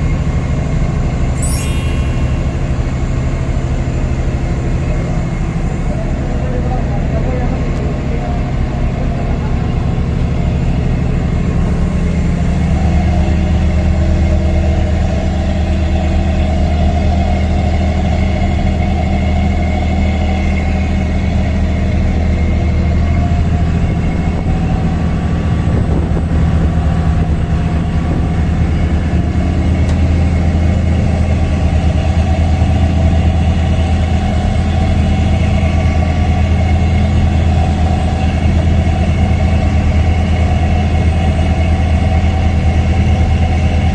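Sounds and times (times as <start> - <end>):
low engine drone: 0.0 - 43.9.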